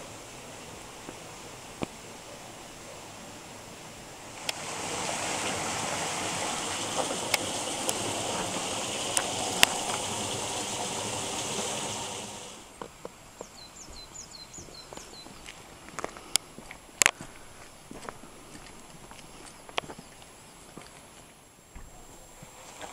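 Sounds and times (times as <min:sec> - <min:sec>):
flowing stream water: 0:00.0 - 0:22.9.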